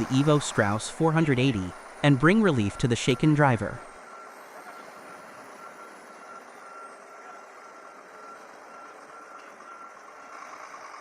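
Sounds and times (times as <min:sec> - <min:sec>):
truck reversing alarm beeping: 0:00.0 - 0:11.0.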